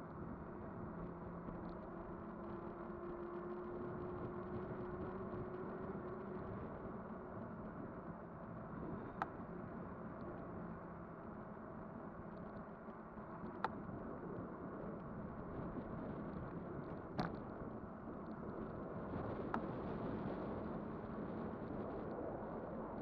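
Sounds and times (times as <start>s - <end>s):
electric bike rumbling: 0.1s - 23.0s.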